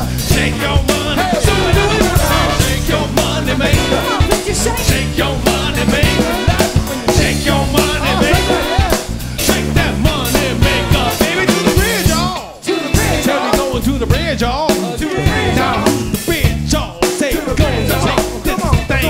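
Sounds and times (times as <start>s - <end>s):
horn section: 0.0s - 14.2s, 15.0s - 16.5s
drum kit beat: 0.0s - 19.0s
live funk band playing: 0.0s - 19.0s
person singing: 0.0s - 19.0s.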